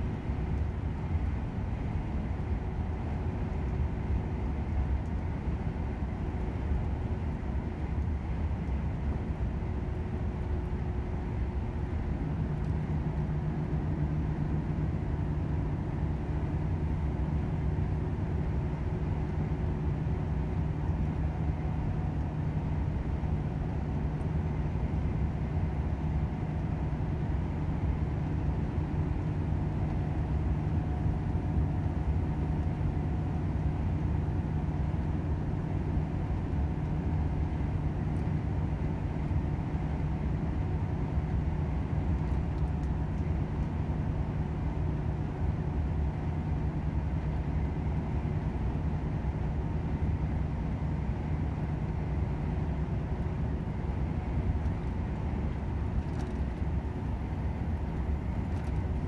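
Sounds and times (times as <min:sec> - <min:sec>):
truck engine and tyres droning: 0:00.0 - 0:59.0.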